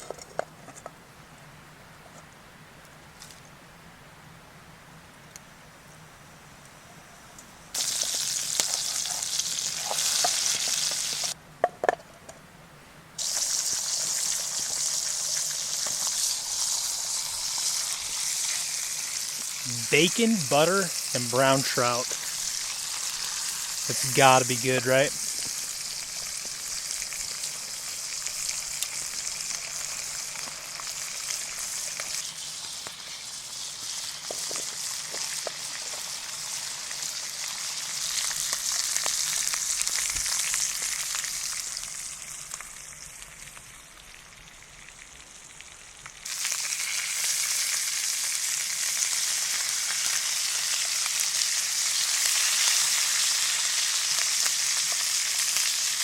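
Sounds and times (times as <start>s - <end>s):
fish sizzling in a pan: 7.8s - 11.4s, 13.2s - 56.0s.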